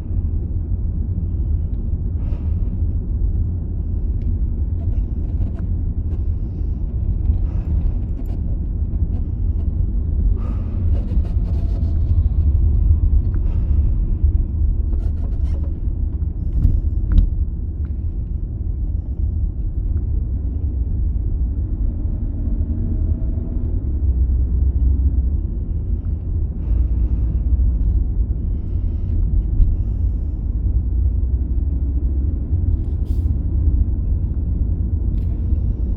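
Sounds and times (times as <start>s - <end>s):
low rumble: 0.0s - 35.9s.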